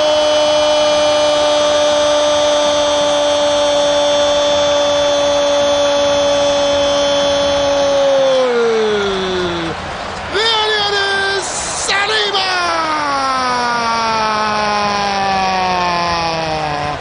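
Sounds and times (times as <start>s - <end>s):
commentator's long goal cry: 0.0s - 17.0s
stadium crowd noise: 0.0s - 17.0s.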